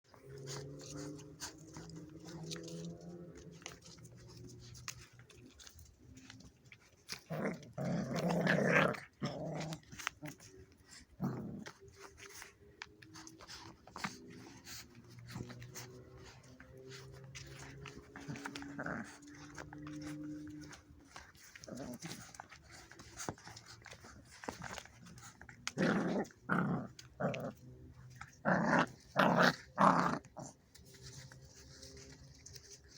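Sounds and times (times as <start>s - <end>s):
dog growling and snarling: 0.1s - 32.9s.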